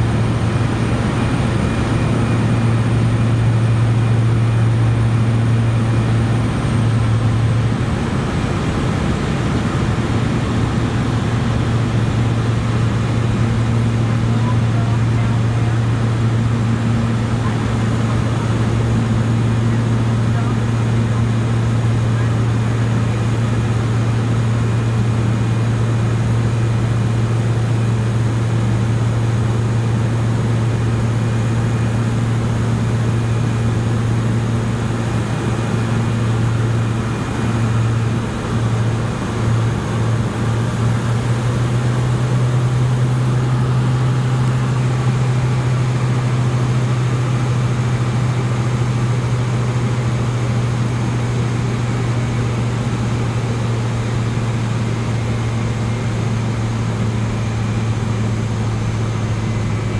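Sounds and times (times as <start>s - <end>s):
turboprop cabin drone: 0.0s - 59.9s.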